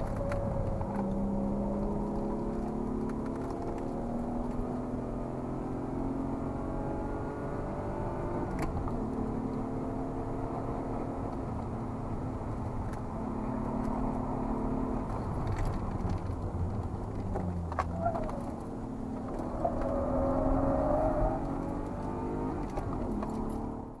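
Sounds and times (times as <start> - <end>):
car engine at speed: 0.0 - 24.0.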